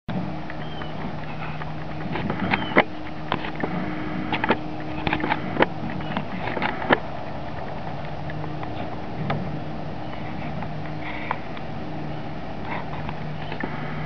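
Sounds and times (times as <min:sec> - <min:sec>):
airplane engine drone overhead: 0:00.1 - 0:14.0
paws stepping on dry wood chips: 0:00.2 - 0:14.0.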